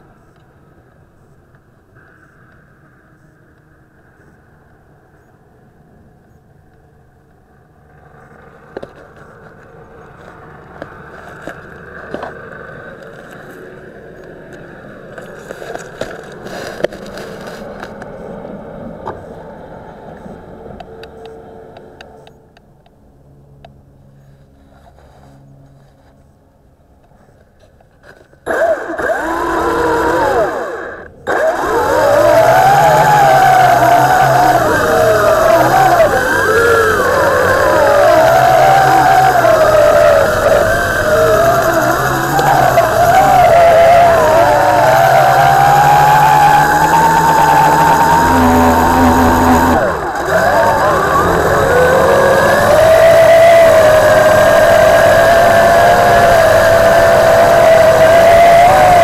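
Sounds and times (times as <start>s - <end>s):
drone propellers whining: 0.0s - 59.0s
quadcopter motors buzzing: 6.2s - 26.4s, 27.1s - 59.0s.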